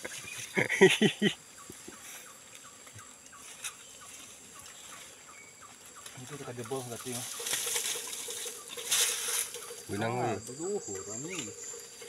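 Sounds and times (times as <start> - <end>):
small bird chirping: 1.2 - 12.0.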